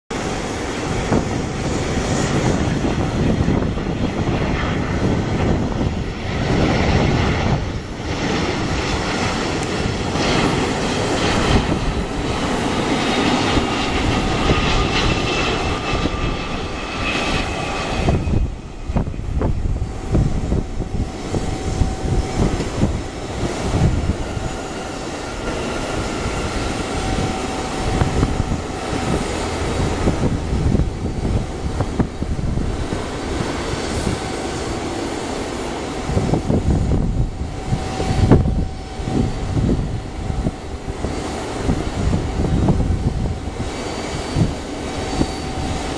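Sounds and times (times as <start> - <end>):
jet engine rumble with whine: 0.1 - 45.9.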